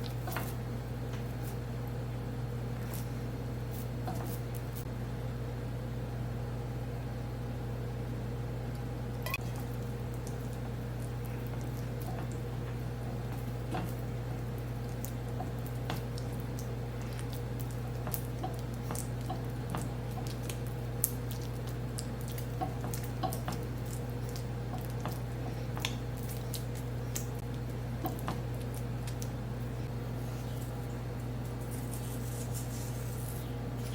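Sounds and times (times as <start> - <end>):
hands squishing wet dough: 0.0 - 4.9, 9.2 - 33.9
steady low hum: 0.0 - 33.9.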